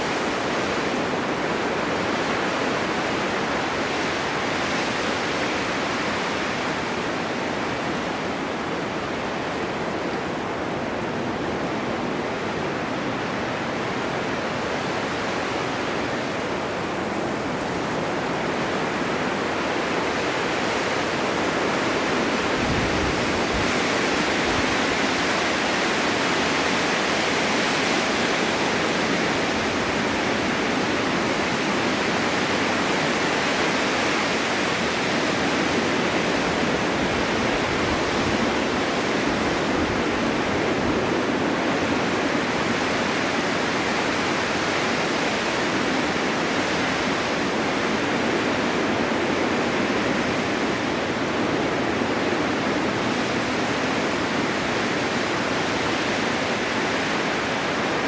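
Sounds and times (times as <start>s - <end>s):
snowstorm wind rushing: 0.0s - 58.0s.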